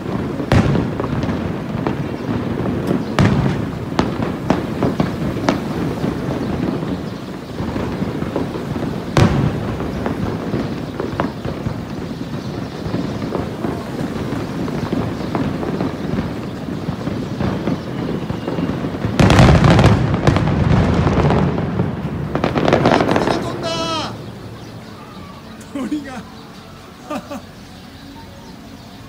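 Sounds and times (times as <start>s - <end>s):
firework bangs: 0.0s - 26.4s
firework rumble and crackle: 0.0s - 27.6s.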